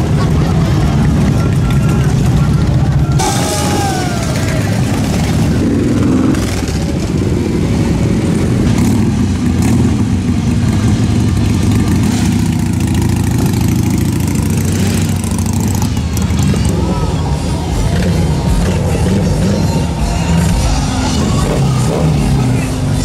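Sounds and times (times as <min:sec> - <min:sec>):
motorcycle engines passing slowly: 0:00.0 - 0:23.0.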